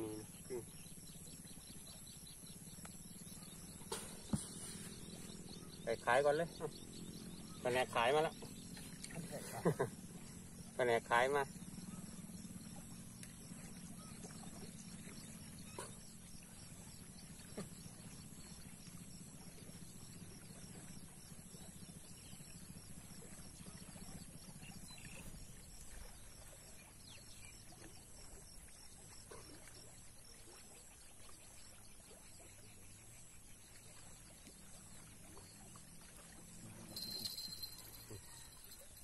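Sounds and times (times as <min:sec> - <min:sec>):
quiet flowing water: 0:00.0 - 0:39.0.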